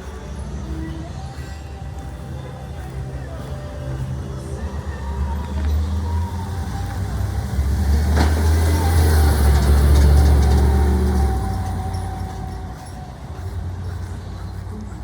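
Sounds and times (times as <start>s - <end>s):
garbage truck diesel engine rumble: 0.0s - 15.0s.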